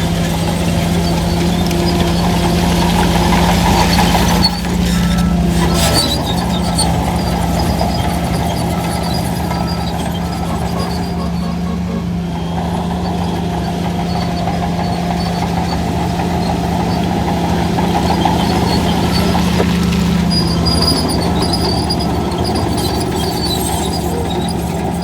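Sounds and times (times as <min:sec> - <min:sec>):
heavy diesel engine running: 0:00.0 - 0:25.0
high metallic squeaks: 0:00.0 - 0:25.0.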